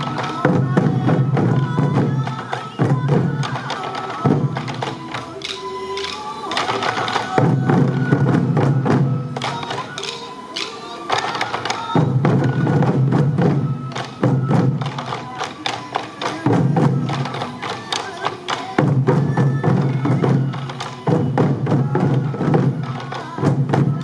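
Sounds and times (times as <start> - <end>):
taiko drums beating rhythm: 0.0 - 24.0
transverse flutes playing melody: 0.0 - 24.0.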